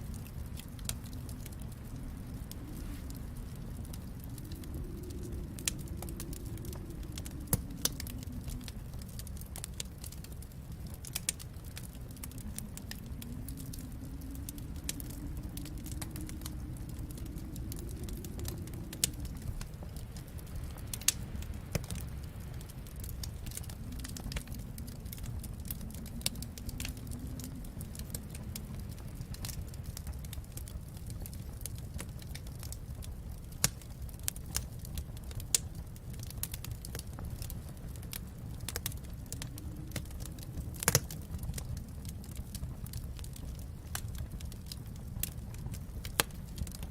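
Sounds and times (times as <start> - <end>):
faint low howl: 0.0 - 46.9
wood fire crackling: 0.0 - 46.9.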